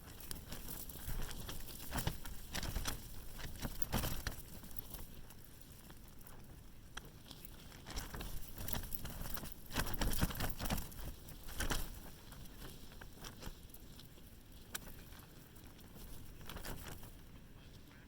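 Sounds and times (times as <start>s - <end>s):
tent fabric flapping: 0.0s - 17.6s.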